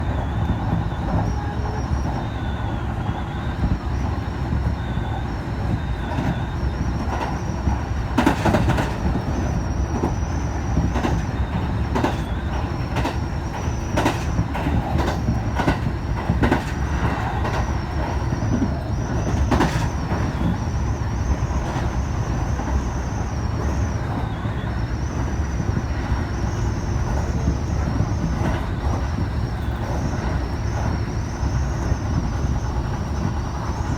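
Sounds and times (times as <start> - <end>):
train rumbling: 0.0 - 33.9
wheels clacking over rails: 0.0 - 33.9.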